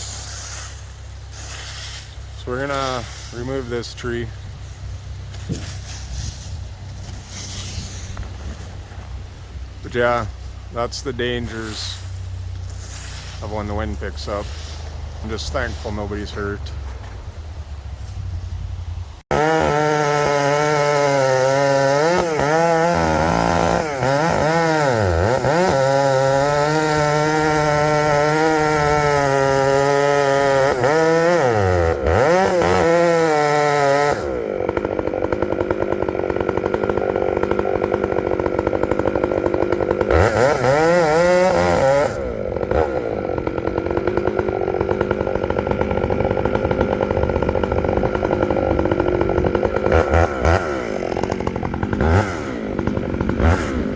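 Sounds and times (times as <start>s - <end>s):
chainsaw revving: 0.0s - 53.9s.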